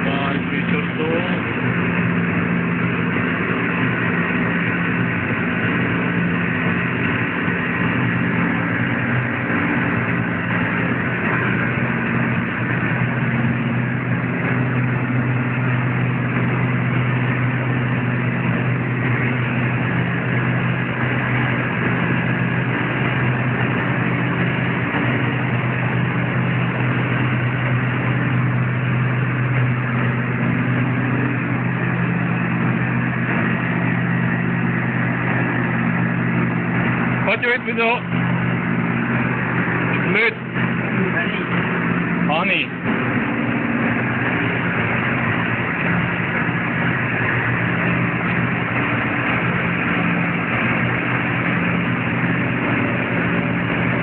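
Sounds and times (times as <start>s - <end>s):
air conditioner humming: 0.0s - 54.0s.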